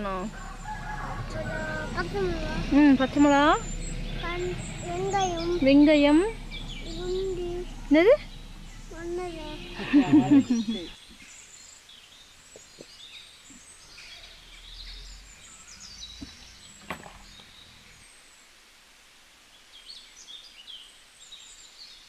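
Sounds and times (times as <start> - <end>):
birds chirping: 0.0 - 18.6.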